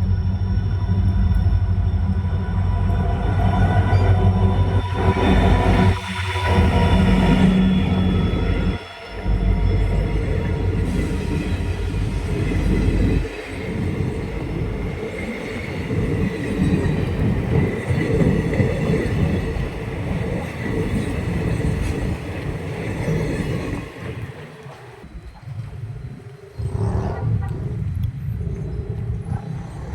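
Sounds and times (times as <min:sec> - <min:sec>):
high wheel squeal: 0:00.0 - 0:25.1
train wheels rumbling on rails: 0:00.0 - 0:26.2.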